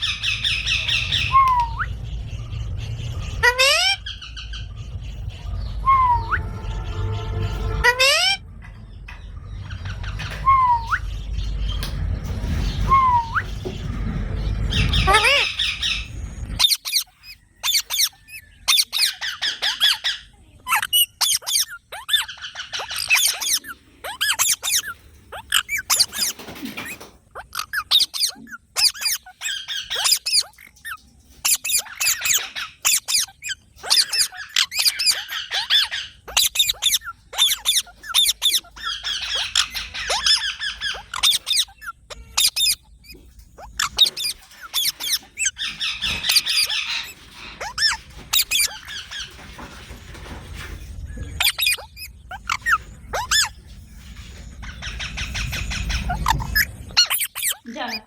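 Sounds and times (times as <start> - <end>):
parakeets chirping: 0.0 - 58.0.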